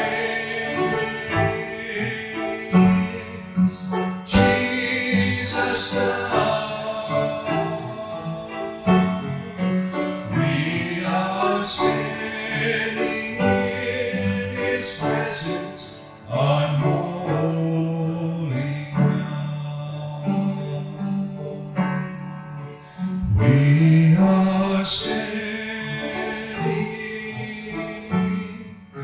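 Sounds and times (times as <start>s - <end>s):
slow piano worship song: 0.0s - 29.0s.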